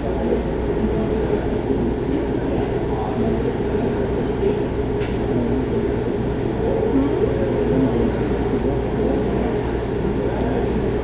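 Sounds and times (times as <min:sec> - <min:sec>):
murmur of voices through glass: 0:00.0 - 0:11.0.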